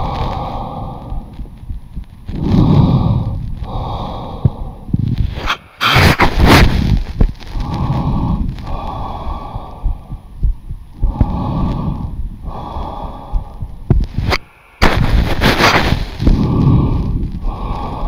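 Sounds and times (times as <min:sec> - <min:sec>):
muffled breathing through stethoscope: 0:00.0 - 0:18.0.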